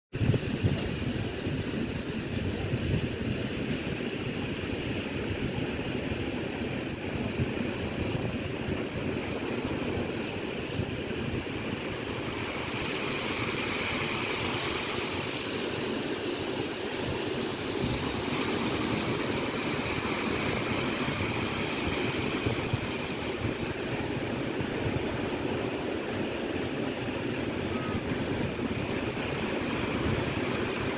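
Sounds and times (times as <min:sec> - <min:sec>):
surf breaking over rocks: 0:00.2 - 0:30.9.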